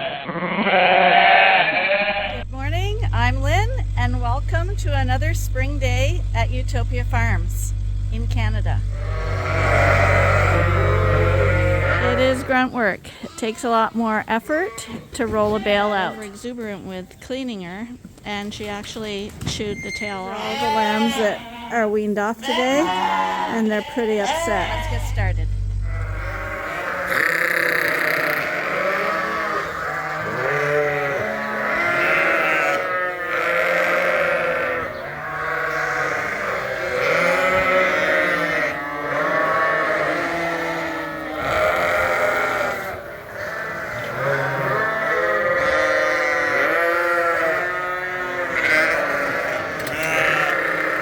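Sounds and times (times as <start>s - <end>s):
sheep bleating: 0.0s - 5.0s, 8.3s - 13.8s, 14.5s - 16.5s, 20.1s - 51.0s.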